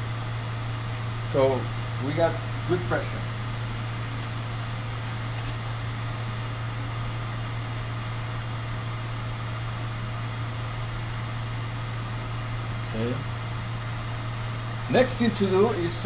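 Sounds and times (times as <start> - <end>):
vacuum pump humming and hissing: 0.0 - 16.0.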